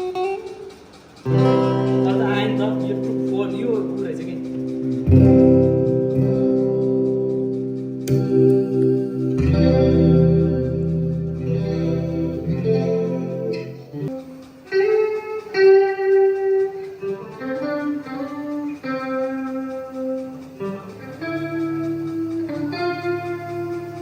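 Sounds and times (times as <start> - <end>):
electric guitar melody: 0.0 - 24.0.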